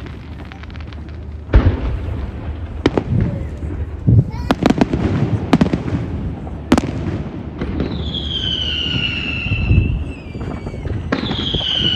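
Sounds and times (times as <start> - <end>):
firework bang: 0.0 - 11.9
low rumble of firework bursts: 0.0 - 11.9
whistling firework: 0.0 - 11.9.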